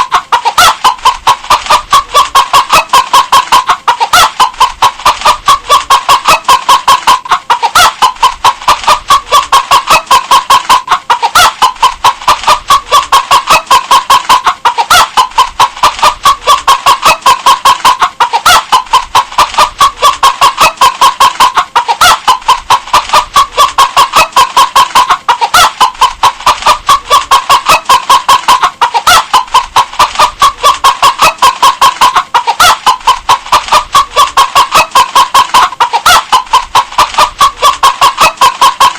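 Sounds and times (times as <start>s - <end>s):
hen clucking: 0.0s - 38.9s.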